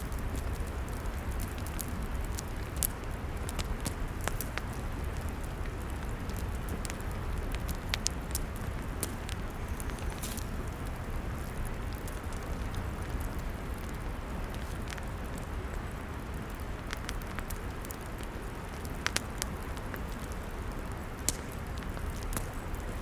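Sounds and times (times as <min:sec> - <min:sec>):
log fire crackling: 0:00.0 - 0:23.0.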